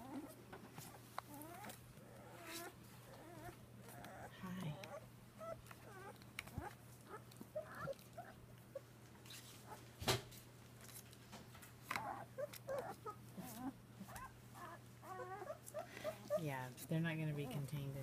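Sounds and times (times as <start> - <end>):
puppies whimpering and squeaking: 0.0 - 9.8, 11.9 - 16.6.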